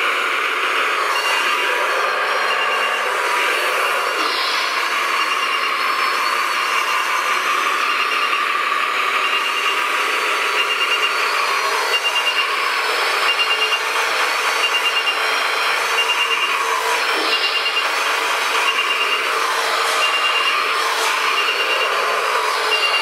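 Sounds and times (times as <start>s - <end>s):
high whir of small motors: 0.0s - 23.0s
short electronic beeps: 1.0s - 23.0s.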